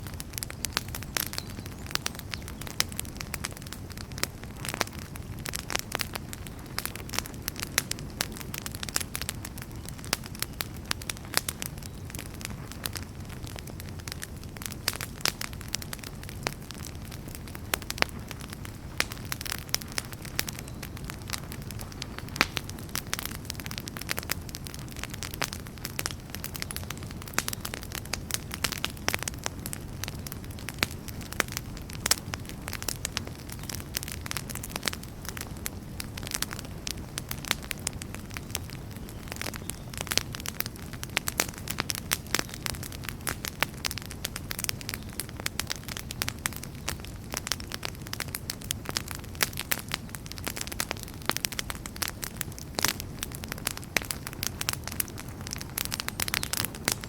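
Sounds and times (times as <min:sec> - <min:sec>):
campfire crackles and pops: 0:00.0 - 0:57.0
low rumble of flames: 0:00.0 - 0:57.0.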